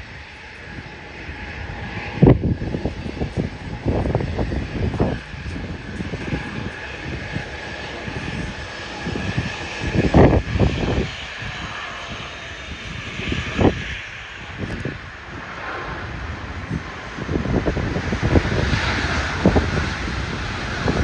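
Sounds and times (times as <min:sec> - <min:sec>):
jet engines roaring: 0:00.0 - 0:21.0
low rumbles: 0:00.0 - 0:21.0.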